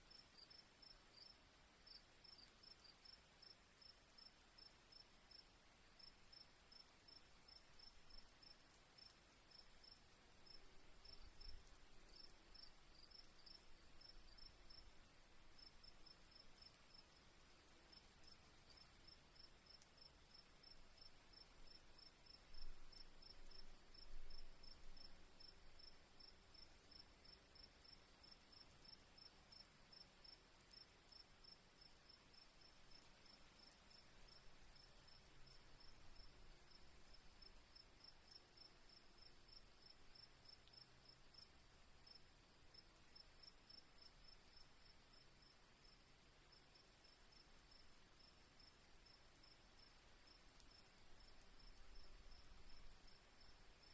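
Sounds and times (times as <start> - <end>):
crickets chirping: 0.1 - 53.9.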